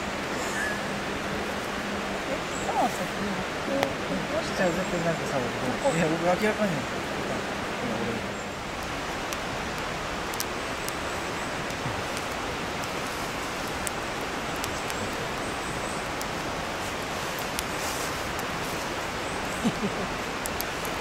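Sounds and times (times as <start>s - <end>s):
shallow stream rushing: 0.0s - 21.0s
wood fire crackling: 0.0s - 21.0s.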